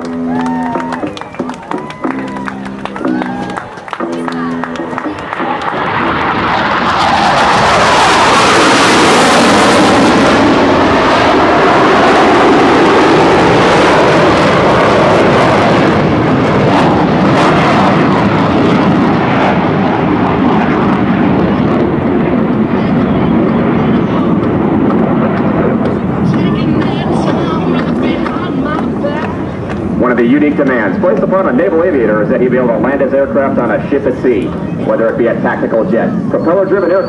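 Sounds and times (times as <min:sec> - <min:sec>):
falling jet whine: 0:00.0 - 0:37.0
jet roar passing low: 0:00.0 - 0:37.0.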